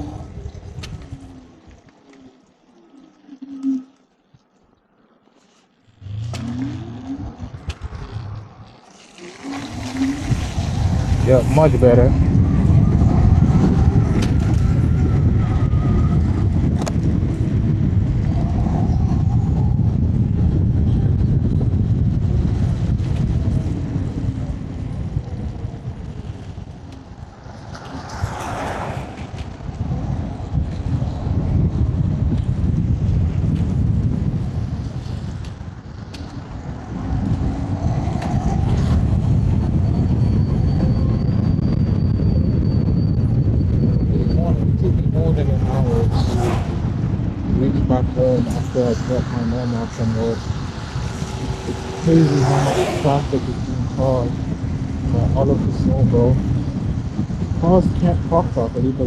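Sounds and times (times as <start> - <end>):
wind rumble on microphone: 0.0 - 4.5, 5.4 - 59.0
faint scooter whine: 0.0 - 57.6.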